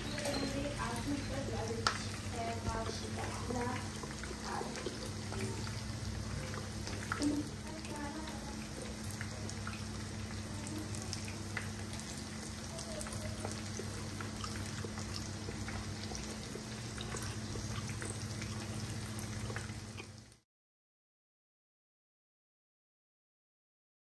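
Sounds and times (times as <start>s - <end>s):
chicken frying in oil: 0.0s - 20.4s
low steady hum: 0.0s - 20.4s.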